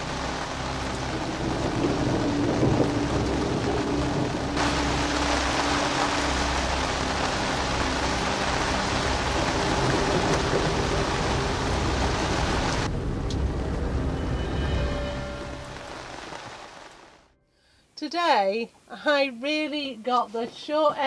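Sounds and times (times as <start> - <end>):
rain falling: 0.0 - 17.3.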